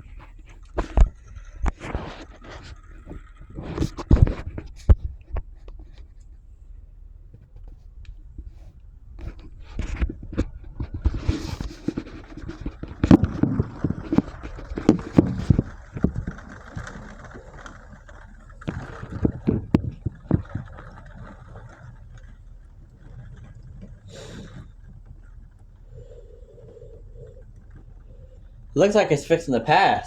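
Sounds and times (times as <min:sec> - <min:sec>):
storm wind buffeting microphone: 0:00.0 - 0:30.0.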